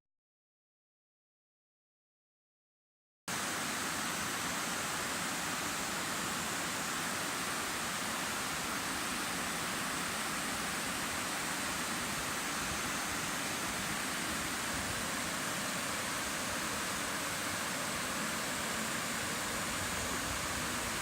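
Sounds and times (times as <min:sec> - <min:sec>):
stream water rushing over rocks: 0:03.3 - 0:21.0.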